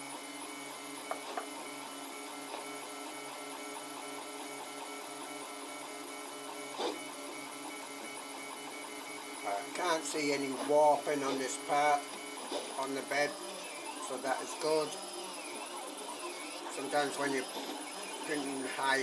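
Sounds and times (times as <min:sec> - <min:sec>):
printer stepper motors whining: 0:00.0 - 0:19.0.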